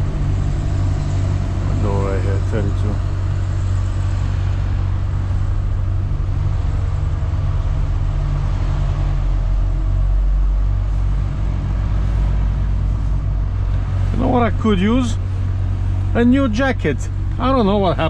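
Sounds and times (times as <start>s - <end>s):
diesel truck engine idling: 0.0s - 8.5s, 9.2s - 18.0s.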